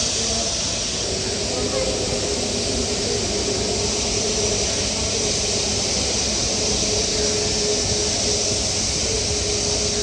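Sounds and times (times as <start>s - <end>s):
distant jet engines hissing: 0.0s - 10.0s.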